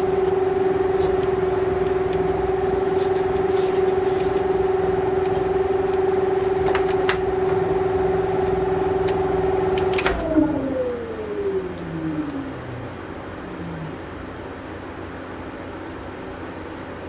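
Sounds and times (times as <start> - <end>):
computer fan humming: 0.0 - 17.0.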